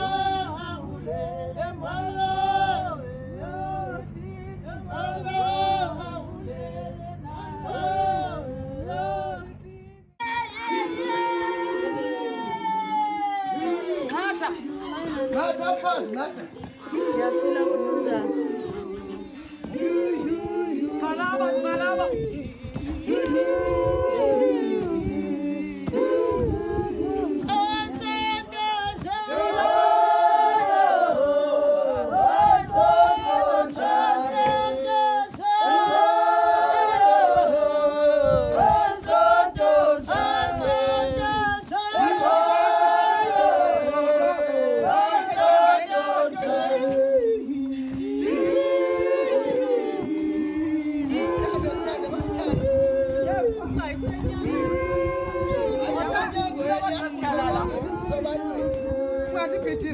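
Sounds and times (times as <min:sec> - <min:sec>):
women singing unaccompanied: 0:00.0 - 0:59.9.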